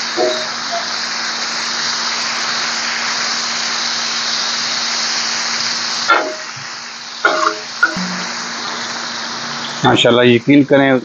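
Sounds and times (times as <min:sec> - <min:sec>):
meat sizzling on a hot pan: 0:00.0 - 0:11.0.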